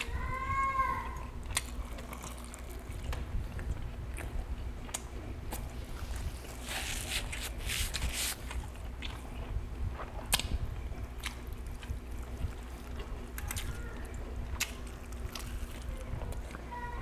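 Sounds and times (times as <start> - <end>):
close chewing: 1.1 - 16.7.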